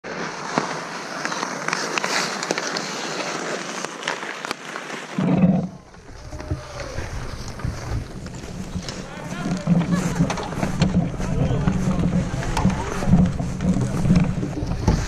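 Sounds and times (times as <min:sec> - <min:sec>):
ice skates scraping: 0:00.0 - 0:15.0
hockey sticks clacking on puck: 0:00.1 - 0:05.2, 0:06.4 - 0:15.0.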